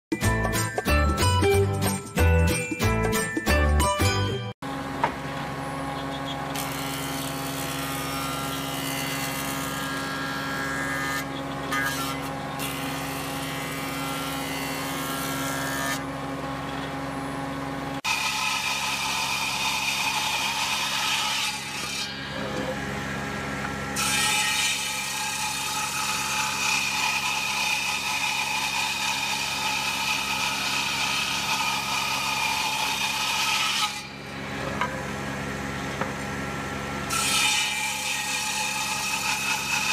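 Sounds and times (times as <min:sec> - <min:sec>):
woodworking machine motor hum: 0:04.6 - 0:39.9.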